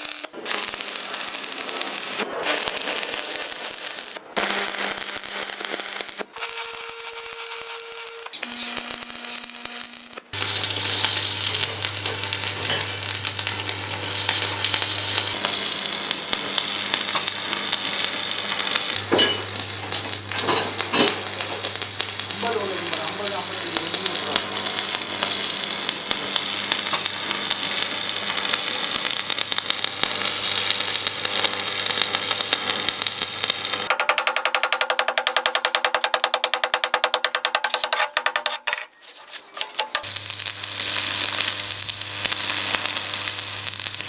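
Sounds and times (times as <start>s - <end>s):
crackling hiss of metalworking: 0.0s - 33.9s, 38.8s - 44.0s.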